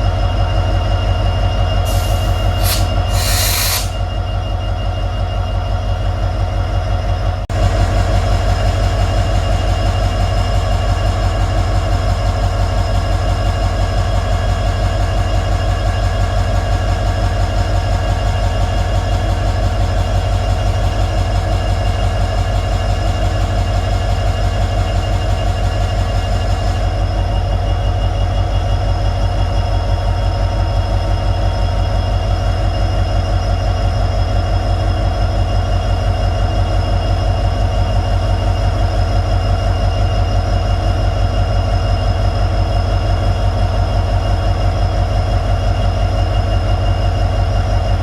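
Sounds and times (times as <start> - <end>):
diesel locomotive engine humming: 0.0 - 48.0.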